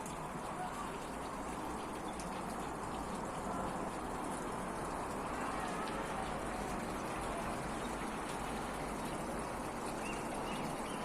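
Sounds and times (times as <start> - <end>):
fountain splashing and trickling: 0.0 - 11.0.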